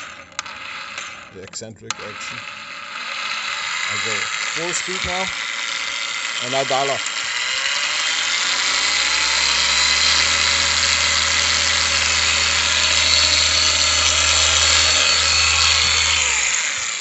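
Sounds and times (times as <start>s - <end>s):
polisher motor whine: 0.0s - 17.0s.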